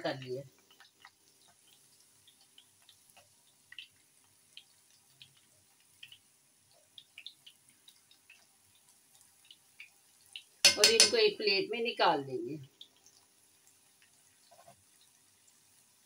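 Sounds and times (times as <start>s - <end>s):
hot oil popping and crackling: 0.0s - 11.6s, 12.6s - 16.0s.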